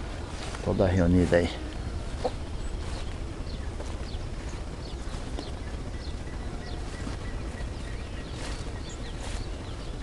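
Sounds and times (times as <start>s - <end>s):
steady low rumble: 0.0s - 10.0s
high bird chirps: 1.8s - 10.0s.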